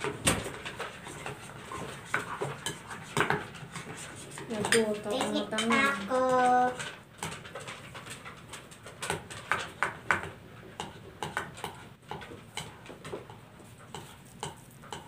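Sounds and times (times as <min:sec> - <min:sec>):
slime squelching when stirred: 0:00.0 - 0:15.0.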